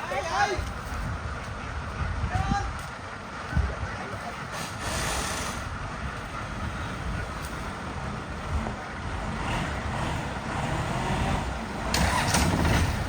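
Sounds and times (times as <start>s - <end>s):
moving vehicle road and wind noise: 0.0s - 13.0s.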